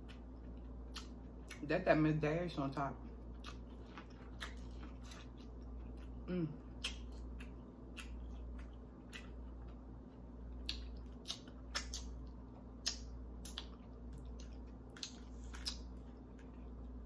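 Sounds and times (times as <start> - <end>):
chewing with wet mouth clicks: 0.0 - 1.6, 3.0 - 17.0
faint low hum: 0.0 - 17.0.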